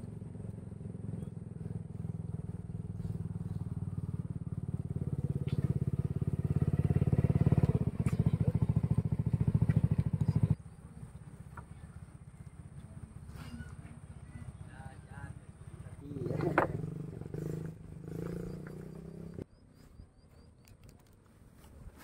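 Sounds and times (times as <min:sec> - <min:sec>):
small engine running: 0:00.0 - 0:14.7, 0:15.8 - 0:19.4.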